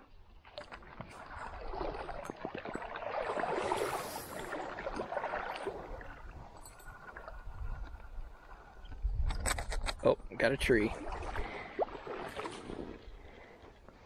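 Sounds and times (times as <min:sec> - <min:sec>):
water sloshing in a creek: 0:00.0 - 0:14.0.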